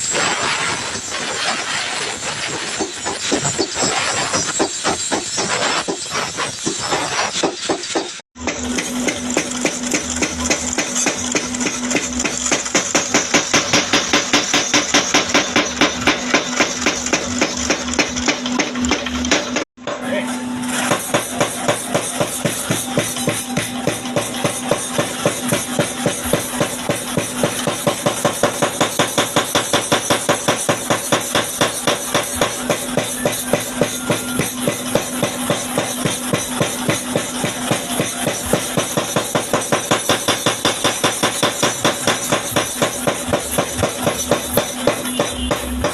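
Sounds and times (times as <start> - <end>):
power hammer pounding: 2.4 - 45.9.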